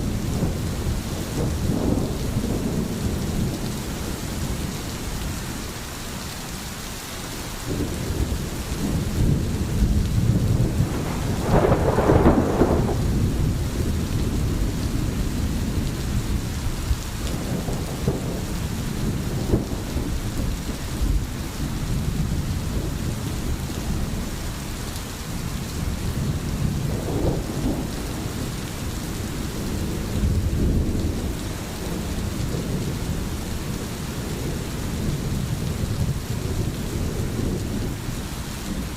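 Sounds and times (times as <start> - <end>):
thunder rumbling: 0.0 - 5.6, 7.6 - 38.9
steady rain: 0.0 - 38.9.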